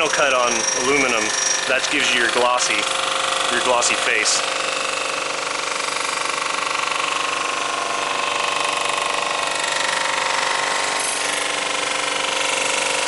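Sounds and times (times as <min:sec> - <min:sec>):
resurfacing machine milling metal: 0:00.0 - 0:13.0.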